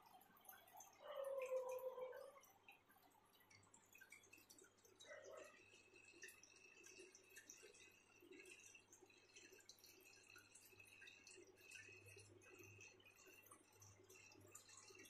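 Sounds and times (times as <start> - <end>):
water dripping and trickling: 0.0 - 15.0.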